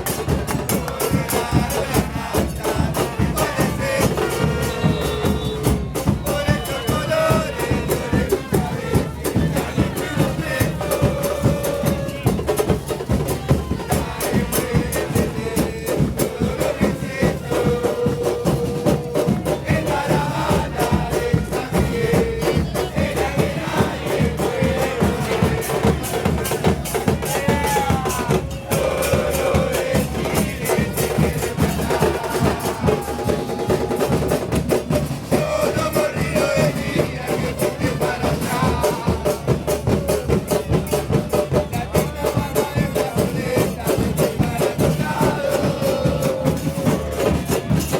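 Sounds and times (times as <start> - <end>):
fast drum beat: 0.0 - 47.9
football crowd singing chants: 0.0 - 47.9.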